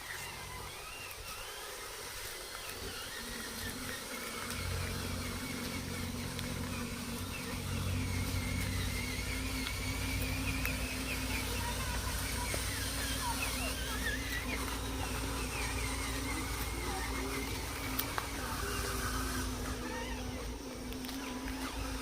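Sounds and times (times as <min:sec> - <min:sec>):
model bulldozer drone: 0:00.0 - 0:22.0.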